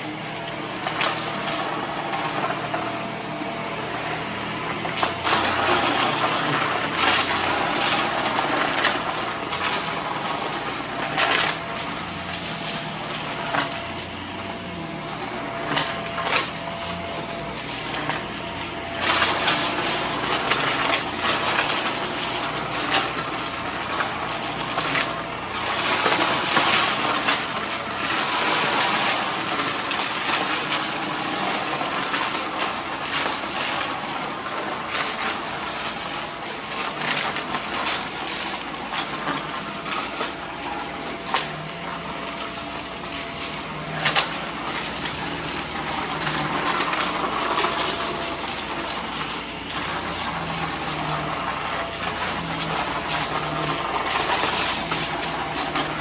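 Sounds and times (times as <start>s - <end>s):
vacuum cleaner running: 0.0s - 56.0s
debris rattling in hose: 4.9s - 56.0s.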